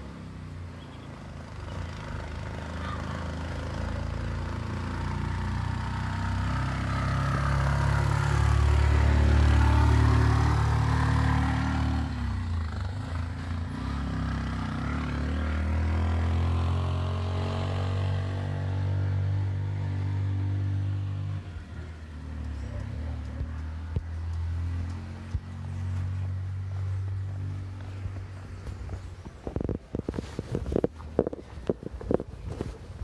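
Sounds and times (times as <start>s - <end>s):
motor vehicle engine running: 0.0s - 32.9s.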